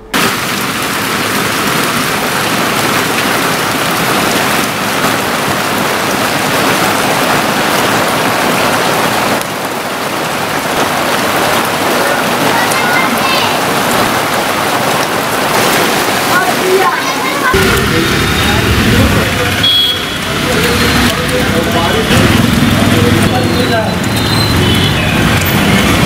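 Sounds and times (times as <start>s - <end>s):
heavy rain hissing: 0.0s - 26.0s.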